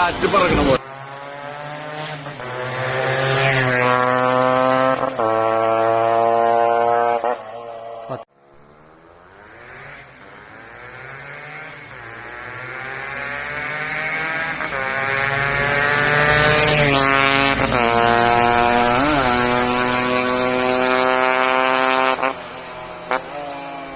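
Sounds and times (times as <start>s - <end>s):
two-stroke motorcycle engine accelerating: 0.0s - 23.9s.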